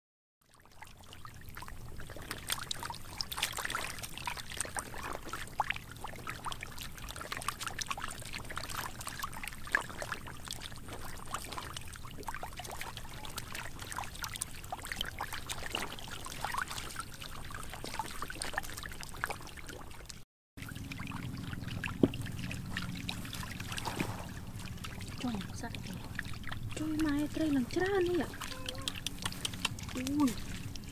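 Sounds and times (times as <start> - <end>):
fish thrashing in shallow water: 0.5 - 30.9.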